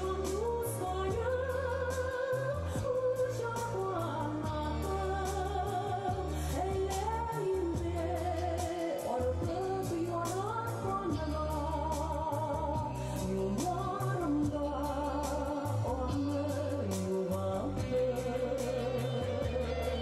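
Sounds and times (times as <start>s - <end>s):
person singing with vibrato: 0.0s - 20.0s
sustained bass notes: 0.0s - 20.0s.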